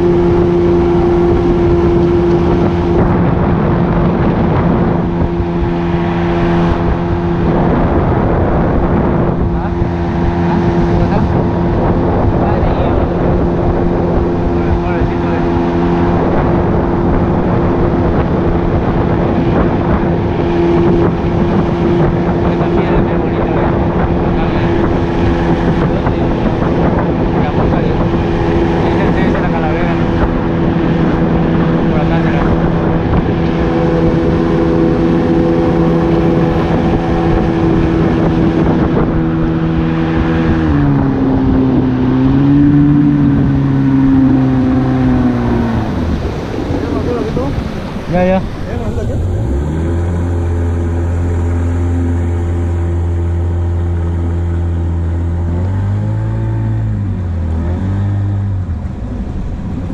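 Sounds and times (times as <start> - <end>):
outboard motor running: 0.0 - 59.9
water and wind rushing: 0.0 - 59.9.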